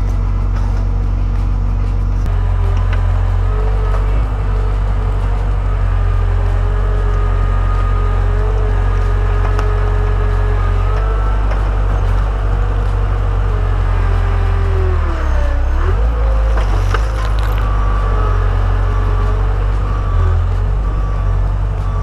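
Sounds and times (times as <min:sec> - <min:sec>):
diesel engine running: 0:00.0 - 0:22.0
engine whine: 0:00.0 - 0:22.0.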